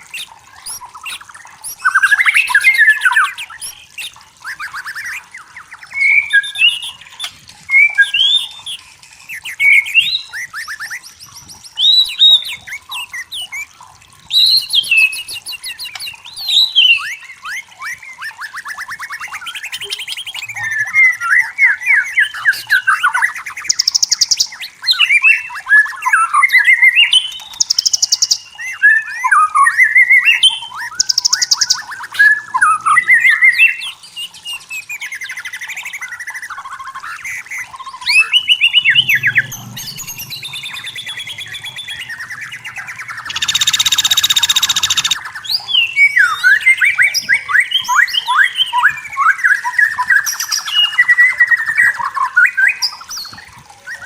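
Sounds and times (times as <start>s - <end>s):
bird singing whistled phrases: 0.0s - 13.7s, 14.3s - 54.0s.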